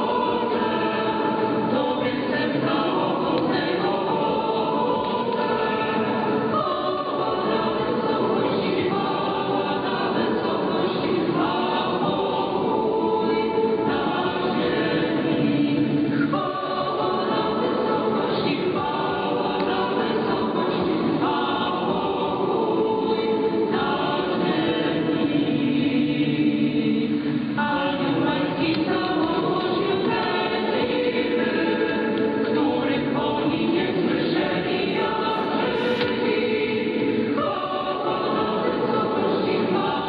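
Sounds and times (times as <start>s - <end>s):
choir singing a hymn over radio: 0.0s - 40.0s.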